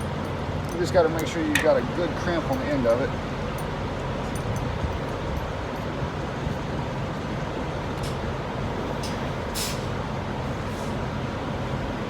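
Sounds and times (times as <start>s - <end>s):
low engine rumble with hum: 0.0s - 12.0s.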